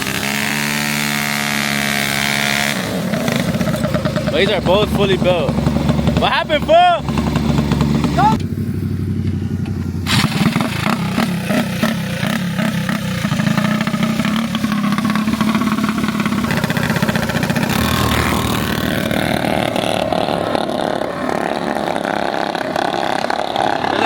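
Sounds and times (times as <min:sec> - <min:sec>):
mini bike engines revving: 0:00.0 - 0:24.0.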